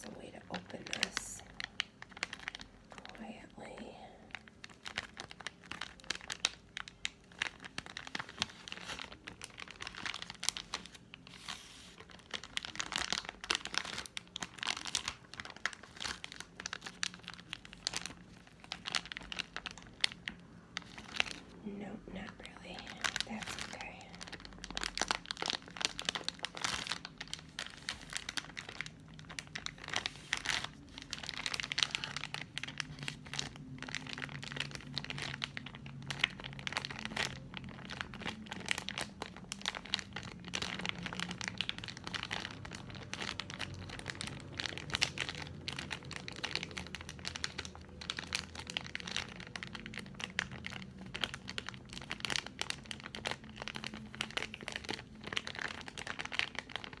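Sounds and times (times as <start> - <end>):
candy wrapper crinkling: 0.0 - 57.0.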